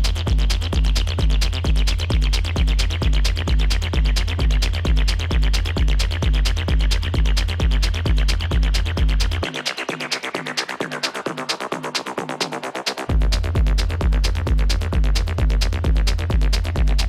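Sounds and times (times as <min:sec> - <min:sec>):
kick drum: 0:00.0 - 0:11.8, 0:13.1 - 0:17.0
techno music: 0:00.0 - 0:17.0.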